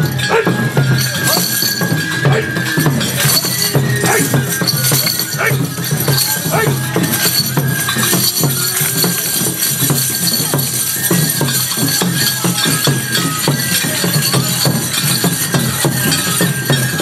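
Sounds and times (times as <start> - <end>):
metal rings jingling: 0.0 - 17.0
taiko drum steady beat: 0.0 - 17.0.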